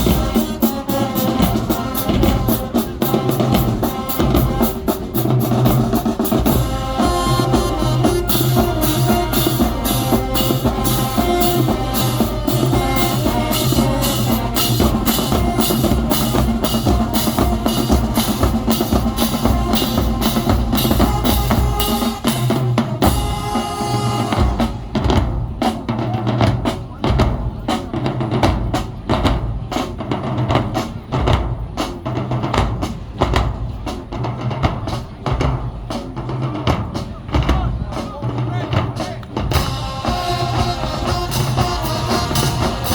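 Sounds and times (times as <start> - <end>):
bass and snare drums: 0.0 - 42.9
marching band wind instruments: 0.0 - 42.9.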